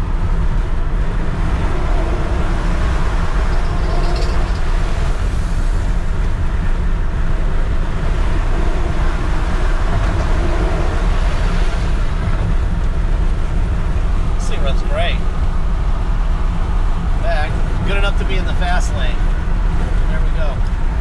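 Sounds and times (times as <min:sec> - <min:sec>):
truck engine and road noise: 0:00.0 - 0:21.0.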